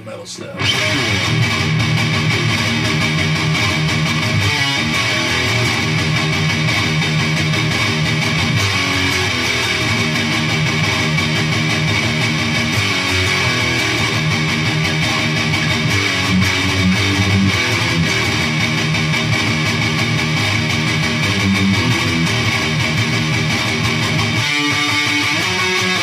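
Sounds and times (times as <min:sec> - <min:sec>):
distorted electric guitar riffing: 0:00.0 - 0:26.0.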